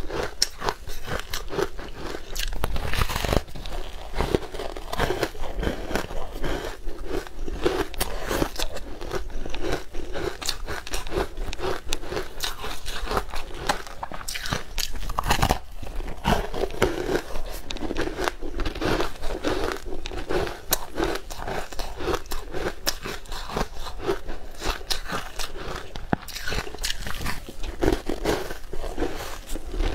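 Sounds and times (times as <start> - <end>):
crunchy biting and chewing: 0.0 - 29.9.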